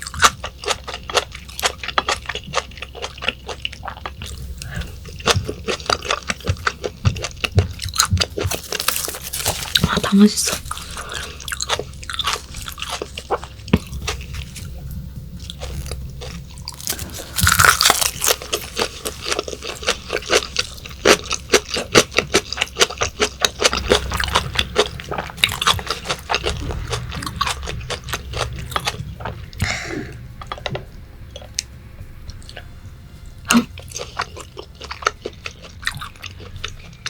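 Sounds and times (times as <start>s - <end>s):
chewing crunchy food: 0.0s - 29.8s, 33.5s - 37.0s.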